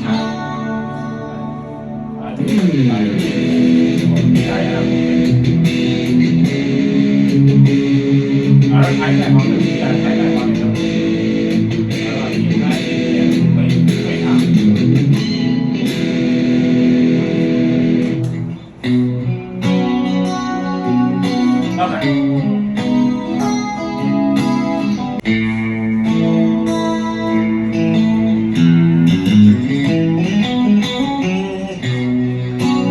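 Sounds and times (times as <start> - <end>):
electric guitar riffing: 0.0 - 32.9.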